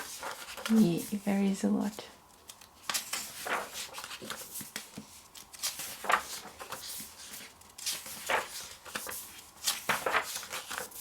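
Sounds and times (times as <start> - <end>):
magazine pages turning: 0.0 - 1.2, 2.3 - 11.0.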